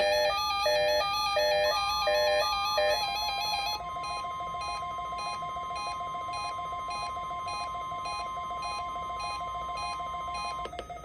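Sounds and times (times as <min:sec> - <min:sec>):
steady alarm tone: 0:00.0 - 0:10.7.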